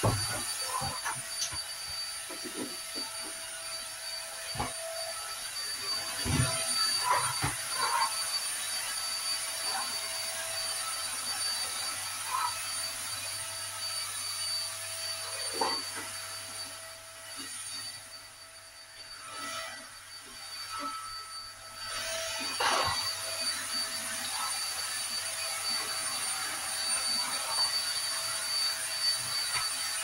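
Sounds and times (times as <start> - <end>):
stick vacuum cleaner whining: 0.0 - 30.0.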